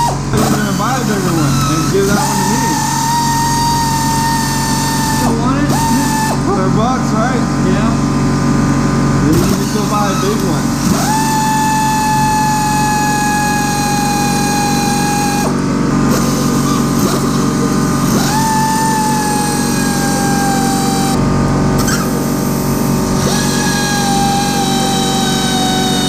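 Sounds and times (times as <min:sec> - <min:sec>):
power drill whining: 0:00.0 - 0:26.0.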